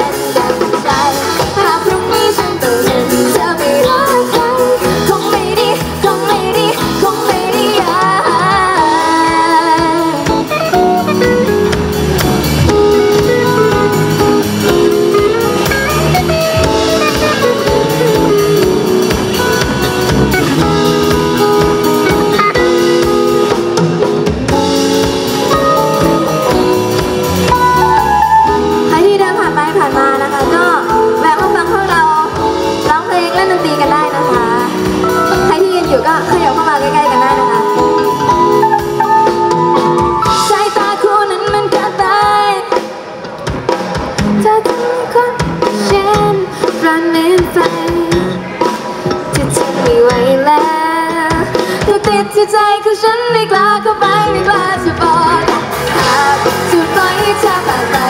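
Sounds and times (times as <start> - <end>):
live band playing pop song: 0.0 - 58.0.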